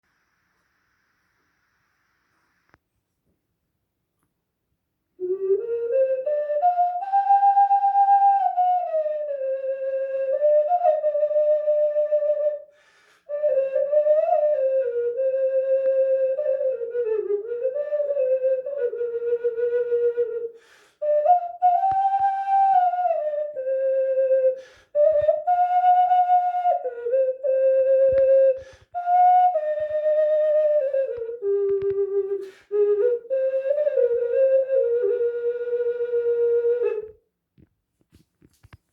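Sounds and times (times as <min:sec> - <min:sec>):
ocarina melody: 0:05.2 - 0:37.2.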